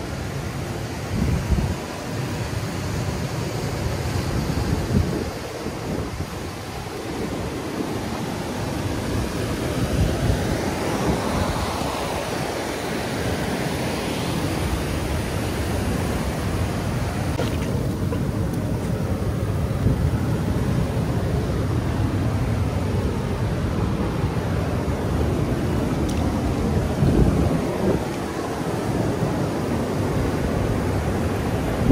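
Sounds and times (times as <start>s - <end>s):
ocean surf breaking: 0.0s - 31.9s
wind rumble on microphone: 1.0s - 2.0s, 4.0s - 13.6s, 14.3s - 31.9s.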